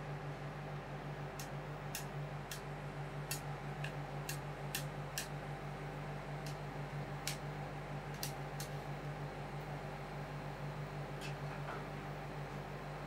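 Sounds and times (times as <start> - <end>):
machine cooling hum: 0.0 - 13.0.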